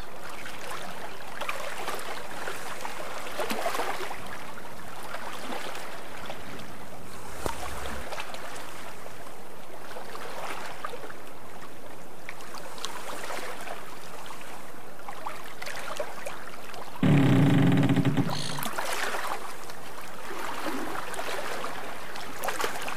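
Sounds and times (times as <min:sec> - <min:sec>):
water washing along boat hull: 0:00.2 - 0:11.1, 0:12.3 - 0:22.9.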